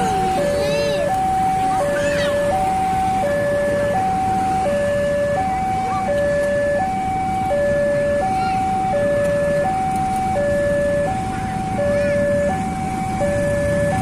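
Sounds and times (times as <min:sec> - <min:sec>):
two-tone level-crossing alarm: 0:00.0 - 0:14.0.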